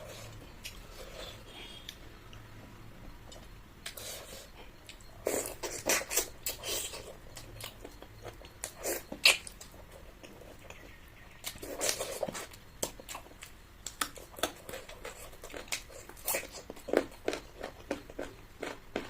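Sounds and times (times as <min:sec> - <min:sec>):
chewing and mouth noises: 0:03.2 - 0:19.0.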